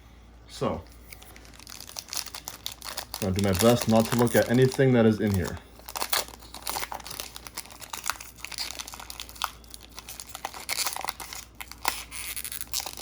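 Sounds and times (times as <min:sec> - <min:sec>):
card pack wrapper crinkling: 0:01.1 - 0:13.0.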